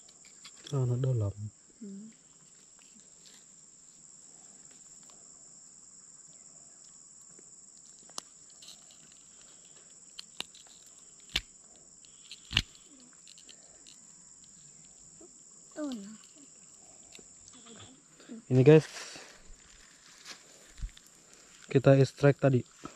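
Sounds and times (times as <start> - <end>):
insect chorus droning: 0.0 - 22.9.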